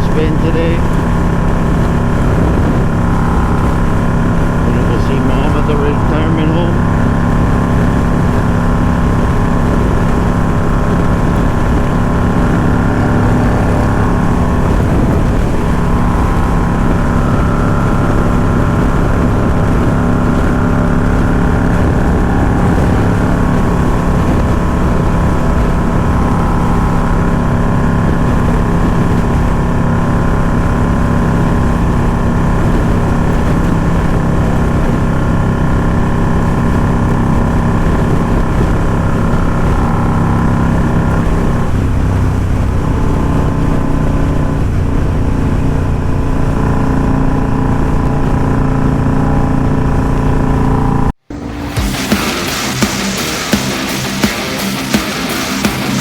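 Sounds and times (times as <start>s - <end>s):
wind noise on microphone: 0.0s - 54.0s
motorcycle engine running: 0.0s - 56.0s.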